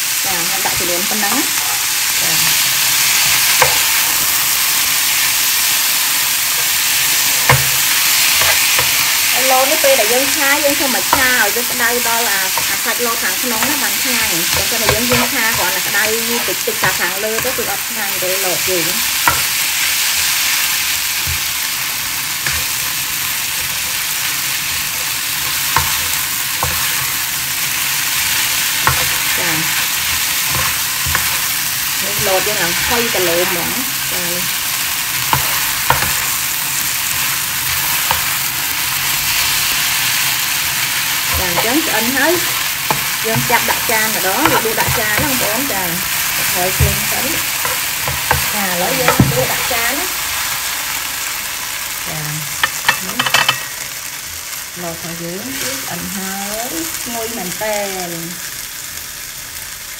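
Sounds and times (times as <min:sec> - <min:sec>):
noodles and beef sizzling in pan: 0:00.0 - 0:59.9
spatula stirring food: 0:00.5 - 0:51.4, 0:52.5 - 0:54.1.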